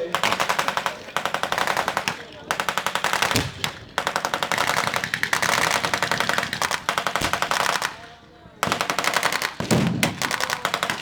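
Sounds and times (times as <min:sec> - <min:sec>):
machine guns firing bursts: 0:00.0 - 0:11.0.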